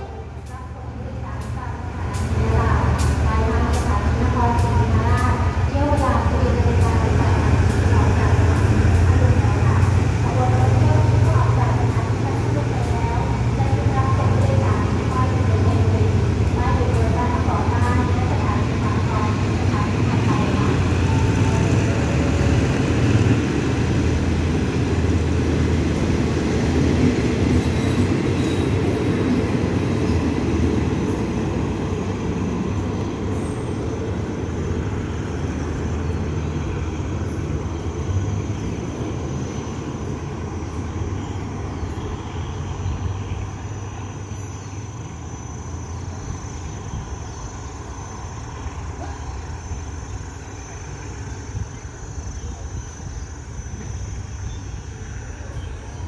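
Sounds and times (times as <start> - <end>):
train coaches rumbling on rails: 0.0 - 56.0.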